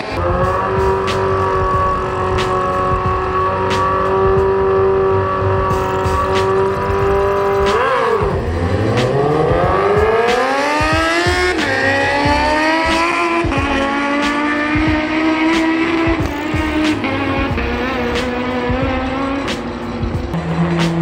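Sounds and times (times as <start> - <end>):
motorcycle engines revving and accelerating: 0.0 - 21.0.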